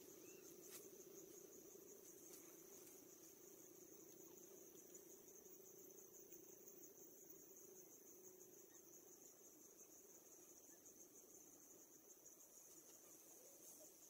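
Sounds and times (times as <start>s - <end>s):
faint low hum: 0.0s - 14.0s
insect chorus trilling: 0.0s - 14.0s.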